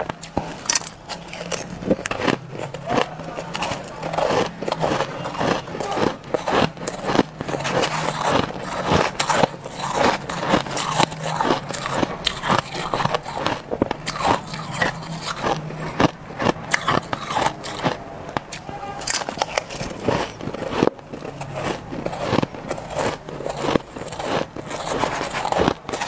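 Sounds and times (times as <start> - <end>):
crunching of frost being chewed: 0.0 - 26.0
metal spoon scraping ice in bowl: 0.6 - 16.1, 19.0 - 26.0.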